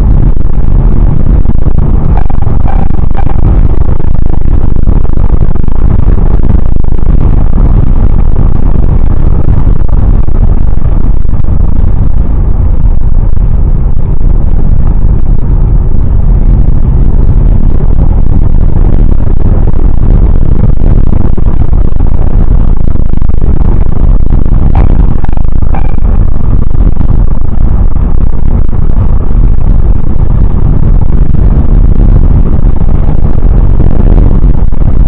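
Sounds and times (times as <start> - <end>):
car driving on wet road: 0.0 - 35.0.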